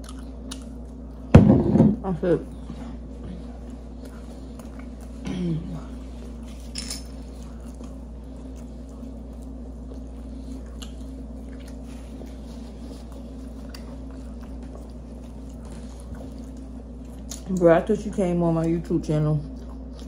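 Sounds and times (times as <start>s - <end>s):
people chewing: 0.0s - 1.3s, 2.6s - 17.8s, 18.5s - 20.0s
steady low hum: 0.0s - 20.0s.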